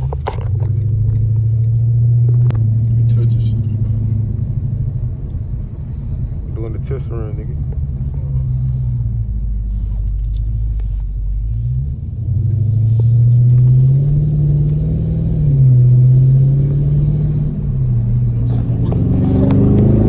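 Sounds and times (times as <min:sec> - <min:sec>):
car engine rumbling and revving: 0:00.0 - 0:20.0.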